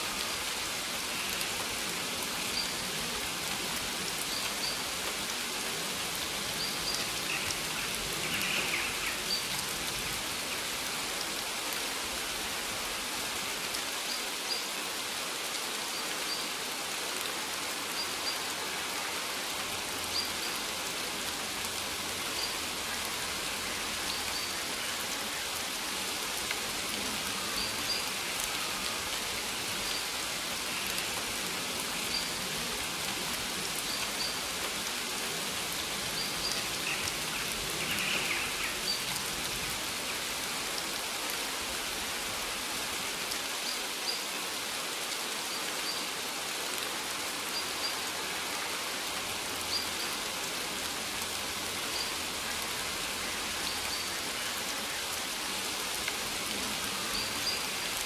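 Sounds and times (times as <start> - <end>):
rain falling on plants: 0.0 - 58.0.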